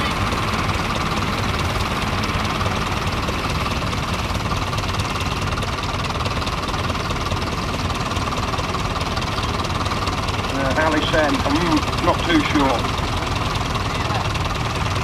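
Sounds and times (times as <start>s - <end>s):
tractor engine knocking at low revs: 0.0s - 15.0s.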